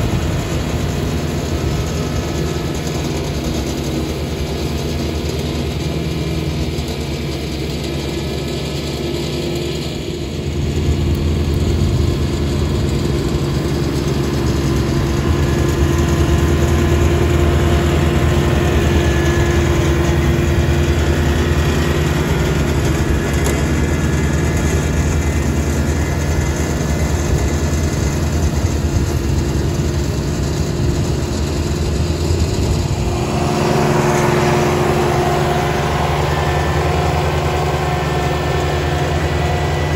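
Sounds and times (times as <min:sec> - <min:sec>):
diesel tractor engine running: 0:00.0 - 0:39.9
mower cutting dry grass: 0:00.0 - 0:39.9.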